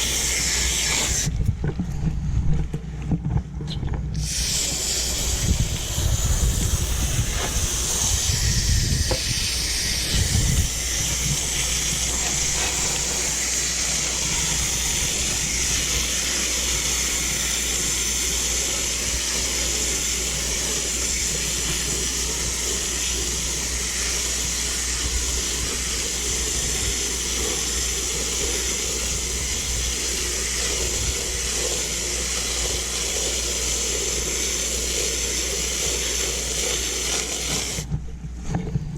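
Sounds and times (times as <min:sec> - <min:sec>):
garden hose spray hissing: 0:00.0 - 0:01.4, 0:04.1 - 0:37.9.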